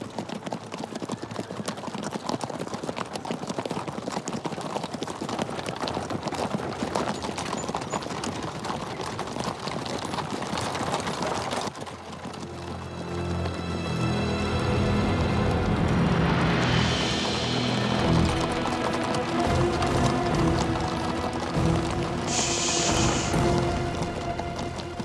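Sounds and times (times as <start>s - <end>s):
horse hooves clip-clopping: 0.0s - 25.0s.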